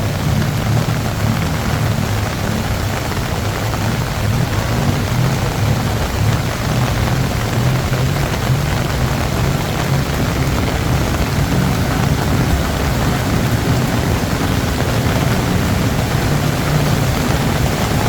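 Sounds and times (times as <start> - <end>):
car engines humming: 0.0 - 18.0
heavy rain pouring: 0.0 - 18.0.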